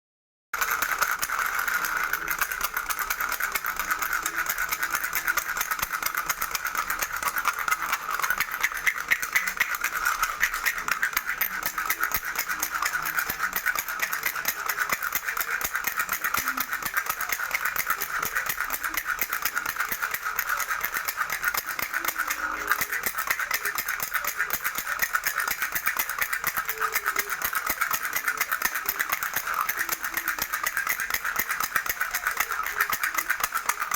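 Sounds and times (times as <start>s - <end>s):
toy rattle shaken rapidly: 0.6s - 33.9s.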